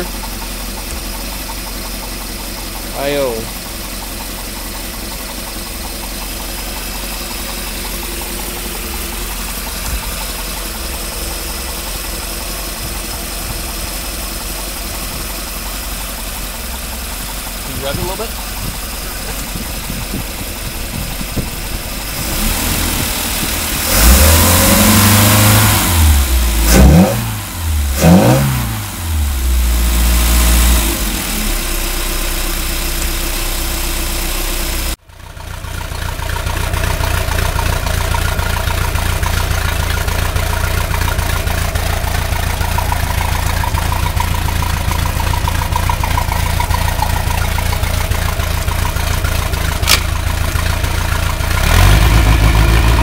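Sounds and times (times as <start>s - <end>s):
boat engine idling and revving: 0.0s - 53.0s.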